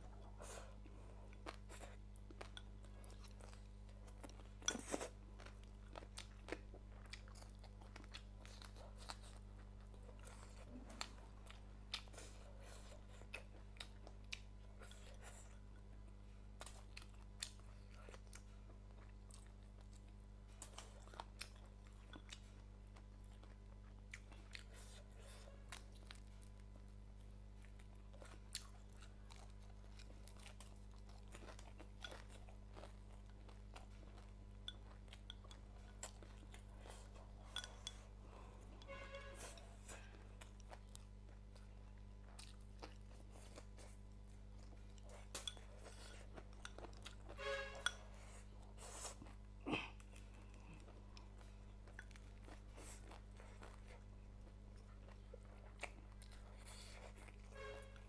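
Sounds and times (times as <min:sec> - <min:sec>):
low electrical hum: 0:00.0 - 0:58.0
person chewing crunchy food: 0:00.1 - 0:58.0.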